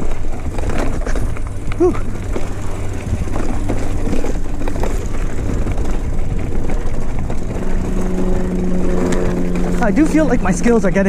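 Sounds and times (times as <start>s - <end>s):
bike tyre rumble on dirt: 0.0s - 11.0s
steady low hum: 0.0s - 11.0s
wind rush: 0.0s - 11.0s.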